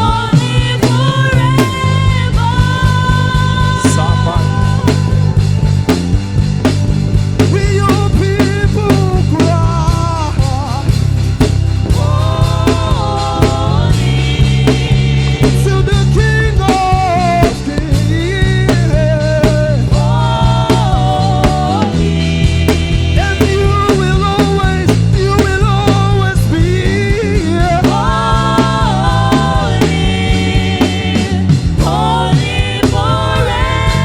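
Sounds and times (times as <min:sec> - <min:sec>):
sliding lead melody: 0:00.0 - 0:34.0
steady drumbeat: 0:00.0 - 0:34.0
sustained bass: 0:00.0 - 0:34.0
worship band playing: 0:00.0 - 0:34.0.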